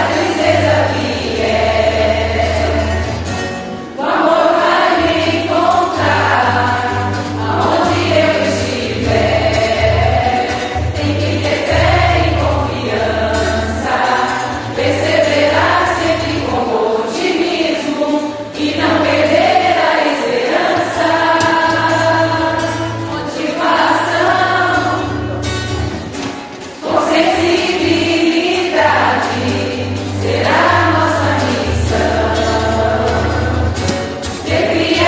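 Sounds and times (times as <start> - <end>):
choir singing: 0.0 - 25.5, 26.8 - 35.0.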